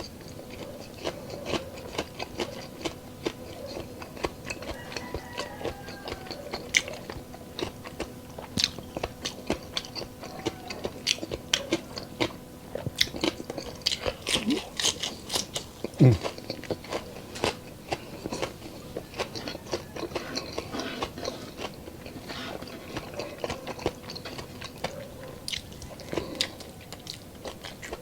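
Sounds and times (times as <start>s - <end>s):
crunching and chewing food: 0.0s - 28.0s
faint steady hum: 0.0s - 28.0s.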